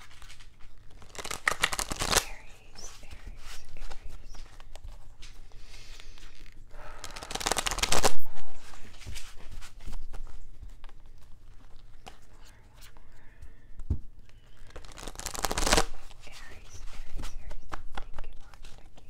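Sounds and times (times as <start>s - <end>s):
cards being shuffled: 0.0s - 13.2s, 13.8s - 19.0s.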